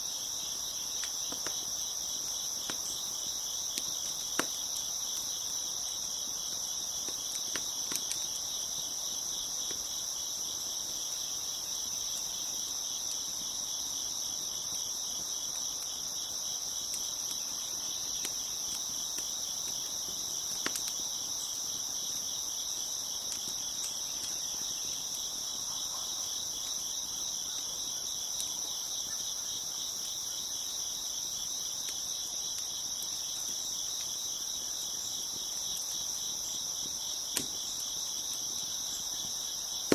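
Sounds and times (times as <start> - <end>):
crickets chirping: 0.0 - 39.9
wood fire popping: 0.2 - 25.6, 31.3 - 39.9.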